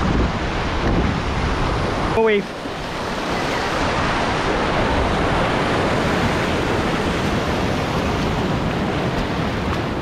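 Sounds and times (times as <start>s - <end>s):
ocean surf washing over rocks: 0.0s - 10.0s.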